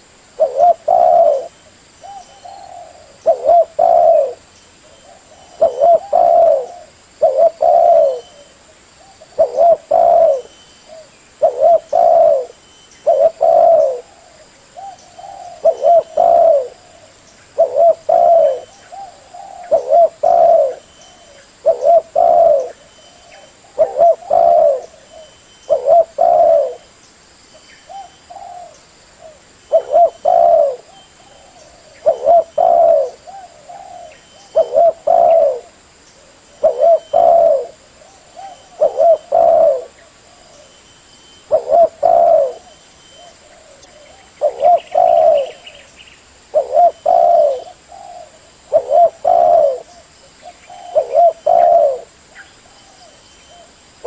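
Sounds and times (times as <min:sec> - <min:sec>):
dove cooing: 0:00.0 - 0:26.9, 0:27.9 - 0:40.8, 0:41.4 - 0:53.8.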